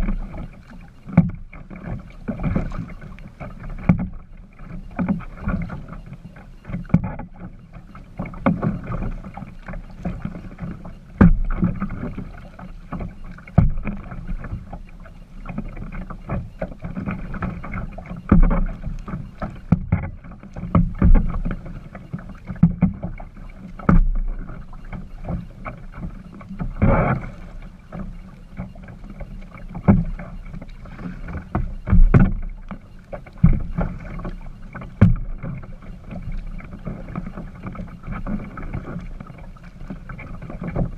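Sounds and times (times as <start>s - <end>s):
paddle knocking on kayak: 0.0s - 40.9s
paddle water splashing: 0.0s - 40.9s.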